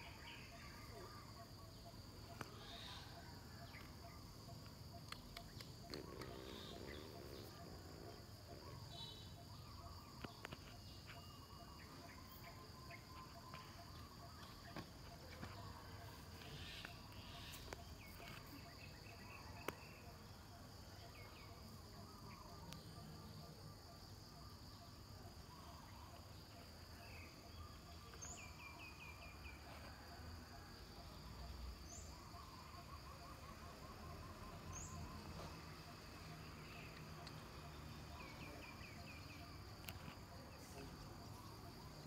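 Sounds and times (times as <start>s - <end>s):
insect chirping trills: 0.0s - 42.0s.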